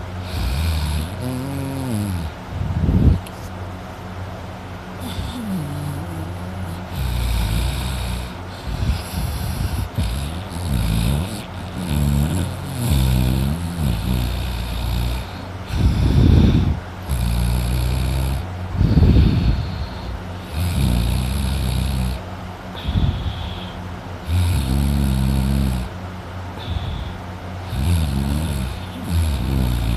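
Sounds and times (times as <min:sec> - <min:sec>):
man snoring loudly: 0:00.0 - 0:02.4, 0:05.0 - 0:26.0, 0:26.6 - 0:29.9.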